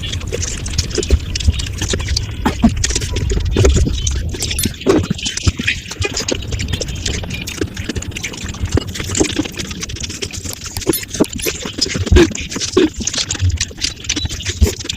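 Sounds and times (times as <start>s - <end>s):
sped-up wet chewing and slurping: 0.0s - 14.9s.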